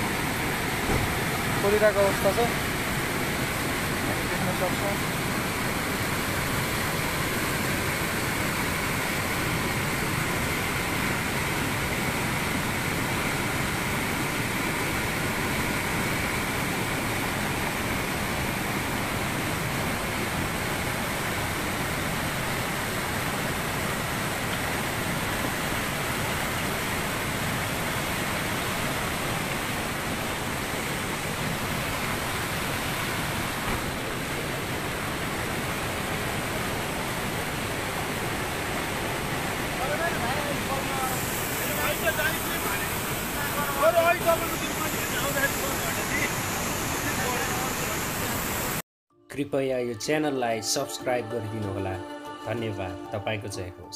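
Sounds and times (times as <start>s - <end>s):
river water rushing: 0.0s - 48.8s.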